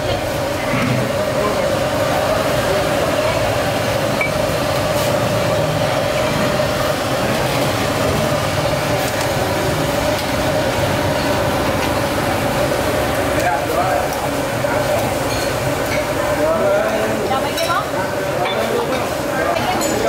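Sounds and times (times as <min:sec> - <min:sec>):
gas burner roaring: 0:00.0 - 0:20.0.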